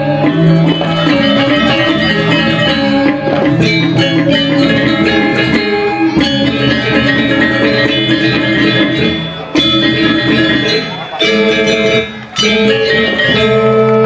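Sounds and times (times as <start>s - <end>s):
gamelan metallophones ringing: 0.0s - 14.0s.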